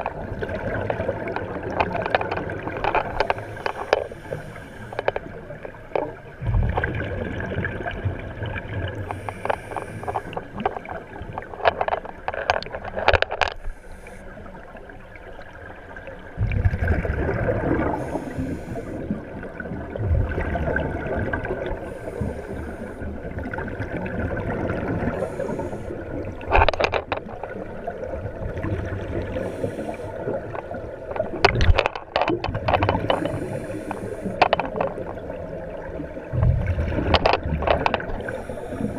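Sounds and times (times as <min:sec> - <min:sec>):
underwater breathing bubbles: 0:00.0 - 0:15.0, 0:16.3 - 0:38.9.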